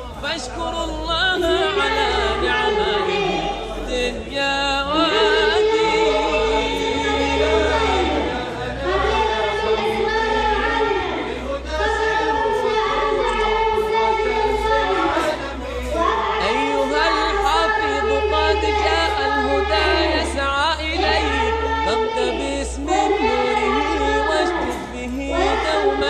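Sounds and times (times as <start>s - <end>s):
choir singing unaccompanied: 0.0s - 26.0s
steady low drone: 0.0s - 26.0s.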